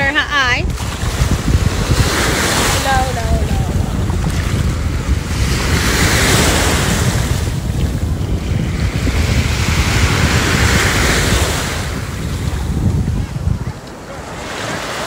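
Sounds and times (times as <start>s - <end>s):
ocean waves breaking on beach: 0.0s - 15.0s
wind buffeting microphone: 0.0s - 15.0s.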